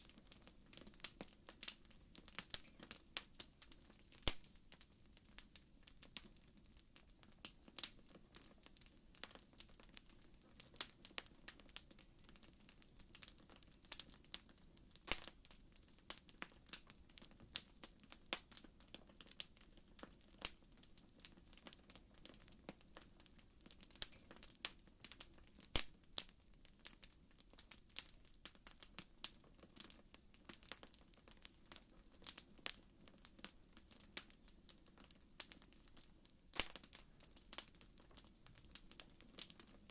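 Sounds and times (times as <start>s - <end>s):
low rumble of burning: 0.0s - 39.9s
wood fire pops and snaps: 0.0s - 39.9s.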